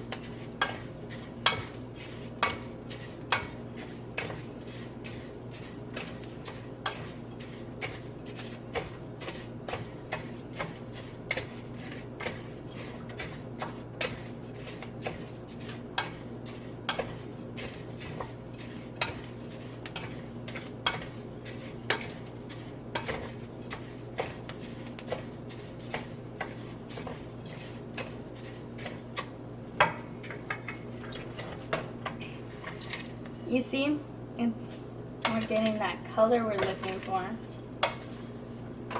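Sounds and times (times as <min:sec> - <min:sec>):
utensil scraping and knocking a pan: 0:00.0 - 0:32.9, 0:35.2 - 0:38.9
steady low hum: 0:00.0 - 0:38.9.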